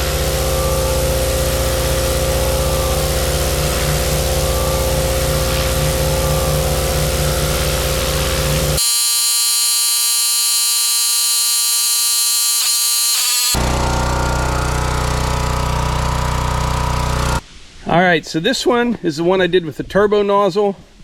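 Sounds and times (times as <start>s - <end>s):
high even buzzing tone: 0.0s - 17.4s
pressure washer running: 0.0s - 17.4s.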